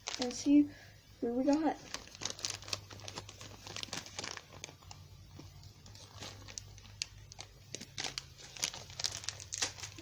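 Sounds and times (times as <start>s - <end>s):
plastic packaging crinkling and tearing: 0.0s - 0.6s, 1.2s - 10.0s.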